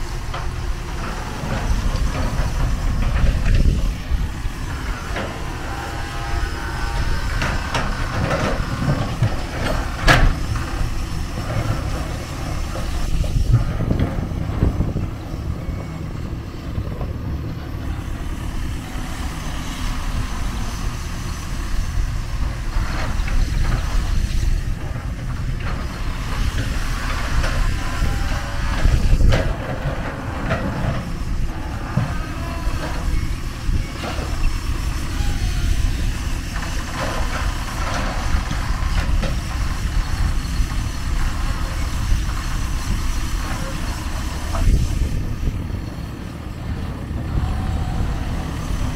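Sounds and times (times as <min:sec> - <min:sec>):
excavator diesel engine under load: 0:00.0 - 0:48.9.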